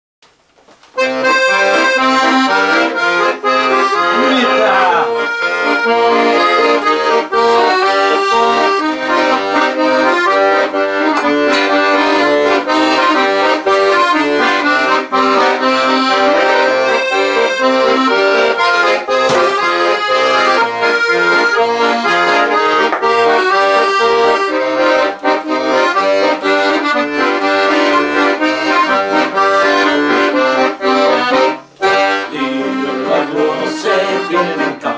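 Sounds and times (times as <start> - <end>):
accordion playing lively tune: 1.0 - 34.9
rhythmic bass line: 1.0 - 34.9.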